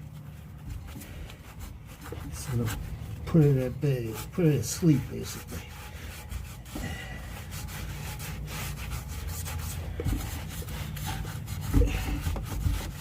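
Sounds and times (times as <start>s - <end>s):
sanding rasping strokes on metal: 0.3s - 13.0s.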